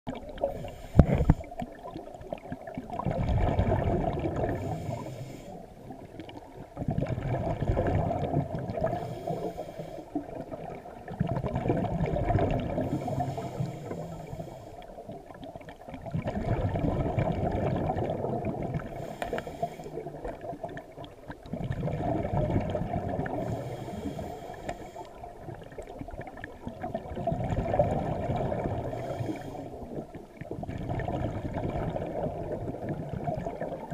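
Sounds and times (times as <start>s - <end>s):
bubbling exhaled air underwater: 0.1s - 33.9s.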